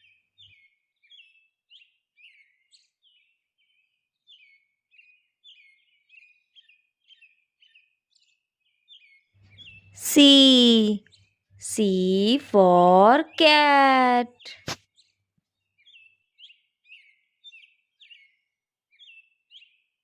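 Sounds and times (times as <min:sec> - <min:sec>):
faint bird chirping: 0:00.0 - 0:20.0.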